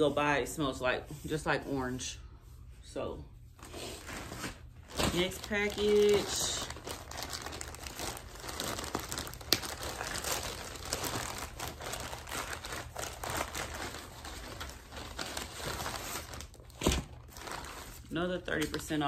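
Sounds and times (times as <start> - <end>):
plastic bag crinkling: 3.6 - 19.0.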